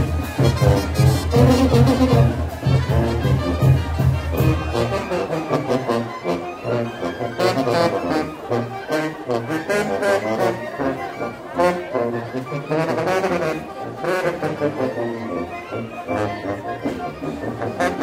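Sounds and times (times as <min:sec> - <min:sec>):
brass band playing dance tune: 0:00.0 - 0:18.0.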